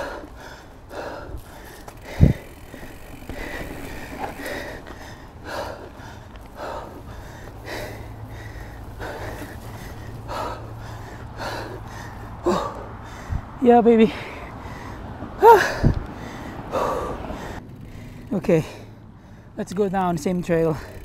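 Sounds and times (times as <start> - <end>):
person breathing hard: 0.0 - 19.6.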